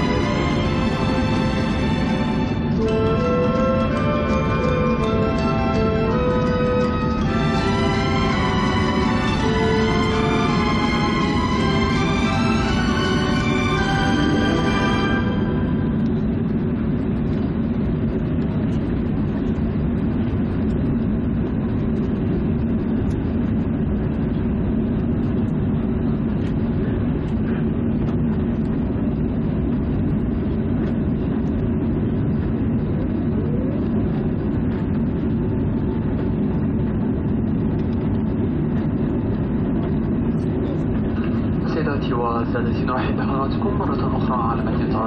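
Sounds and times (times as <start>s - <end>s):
airliner cabin hum: 0.0s - 45.0s.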